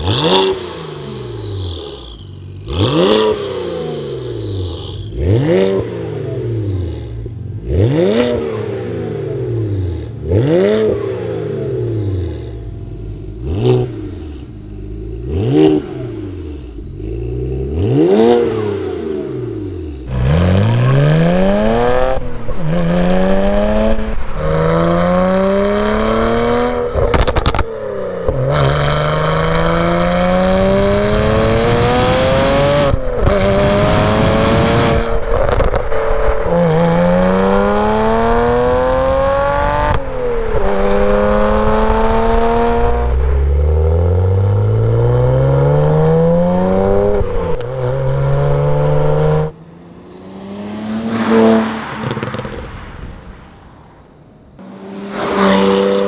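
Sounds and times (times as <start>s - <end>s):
car engine accelerating through gears: 0.0s - 53.2s.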